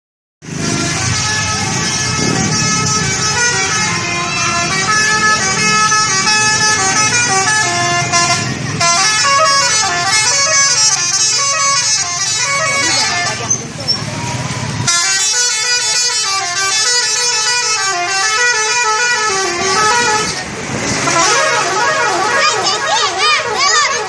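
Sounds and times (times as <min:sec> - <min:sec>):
bus horns playing a tune: 0:00.5 - 0:13.8, 0:14.4 - 0:24.0.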